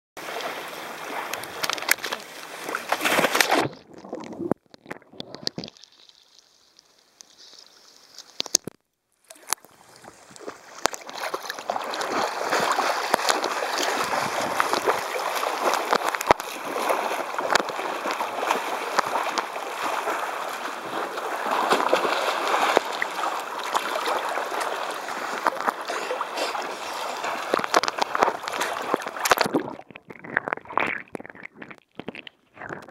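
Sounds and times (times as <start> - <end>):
sea water sloshing and splashing: 0.2 - 8.5, 9.3 - 32.9.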